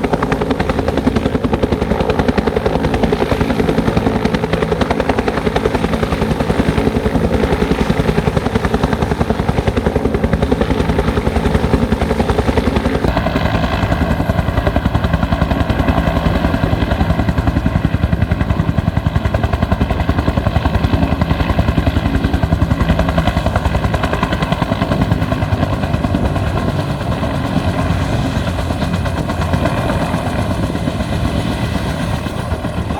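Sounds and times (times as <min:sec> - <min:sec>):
helicopter rotor beating: 0:00.0 - 0:32.9.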